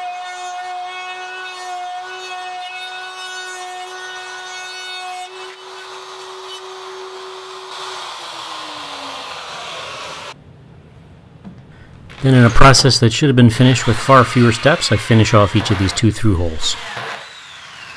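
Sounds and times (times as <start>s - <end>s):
electric router cutting wood: 0.0s - 10.4s, 13.6s - 17.9s.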